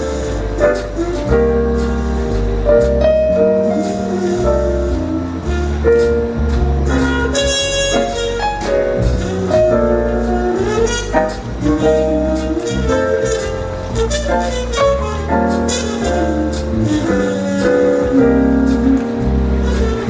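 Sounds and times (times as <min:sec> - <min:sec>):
small jazz band playing: 0:00.0 - 0:20.0
tenor saxophone: 0:03.4 - 0:20.0.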